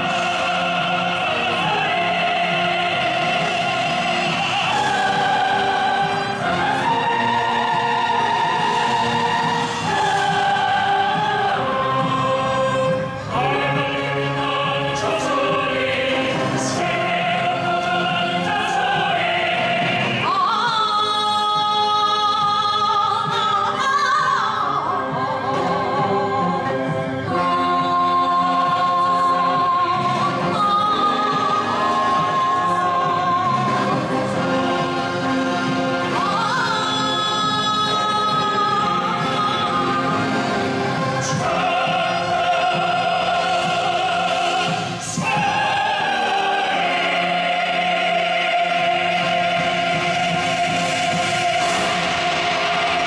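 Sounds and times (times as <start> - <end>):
military band playing: 0.0 - 21.6, 24.9 - 53.0
choir singing: 0.0 - 53.0
solo singing with vibrato: 0.0 - 53.0.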